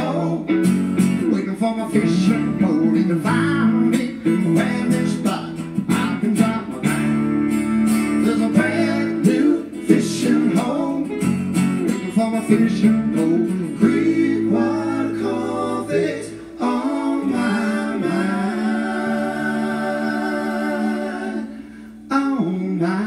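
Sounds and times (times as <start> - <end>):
strummed acoustic guitar: 0.0 - 21.9.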